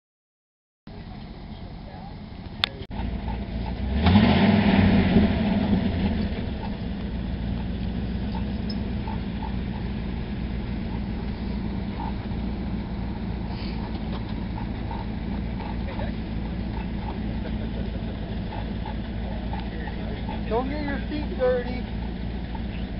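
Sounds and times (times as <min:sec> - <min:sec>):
truck engine revving and idling: 0:00.9 - 0:22.9.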